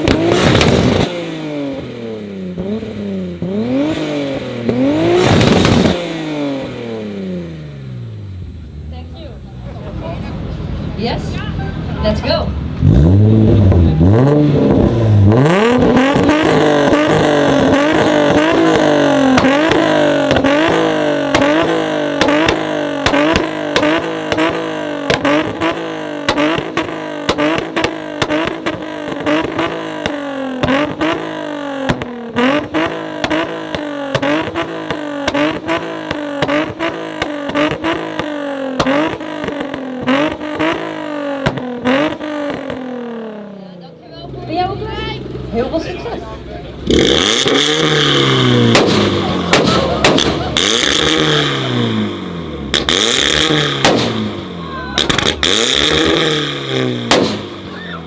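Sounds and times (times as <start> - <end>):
exhaust popping bangs: 0.0 - 43.4, 44.3 - 58.0
car engine bouncing on rev limiter: 0.0 - 43.6, 44.3 - 58.0.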